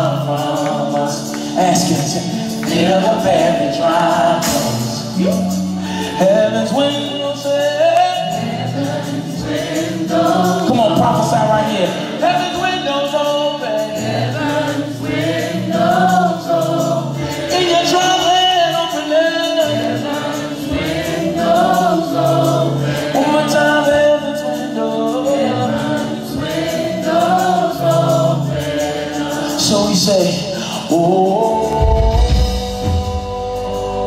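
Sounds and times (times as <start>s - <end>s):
choir singing in harmony: 0.0s - 34.0s.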